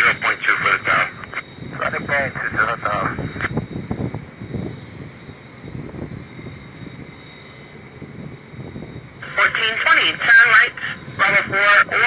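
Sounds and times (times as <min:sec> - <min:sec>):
faint high whine: 0:00.0 - 0:12.0
jet airliner engines rumbling: 0:00.0 - 0:12.0.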